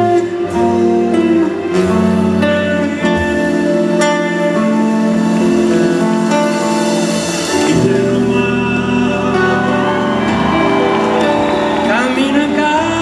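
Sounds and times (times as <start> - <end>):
guitar playing sustained chords: 0.0 - 13.0.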